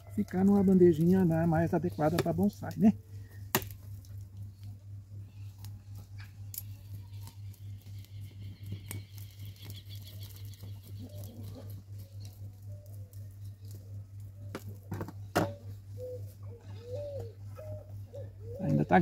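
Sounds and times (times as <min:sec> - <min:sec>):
soil and roots crackling: 0:00.0 - 0:16.4
low pulsing hum: 0:00.0 - 0:19.0.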